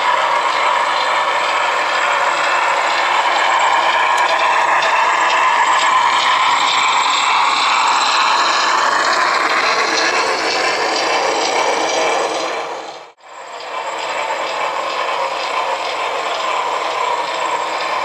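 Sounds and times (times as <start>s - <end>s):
model train whirring and clattering: 0.0s - 18.0s.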